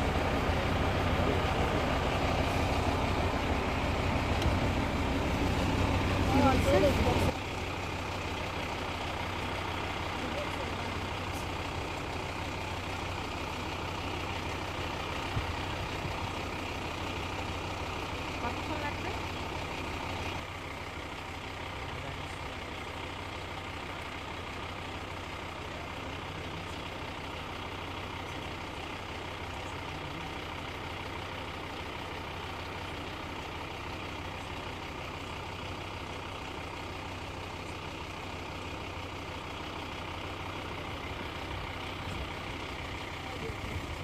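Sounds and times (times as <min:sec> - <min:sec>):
fire engine idling: 0:00.0 - 0:44.0.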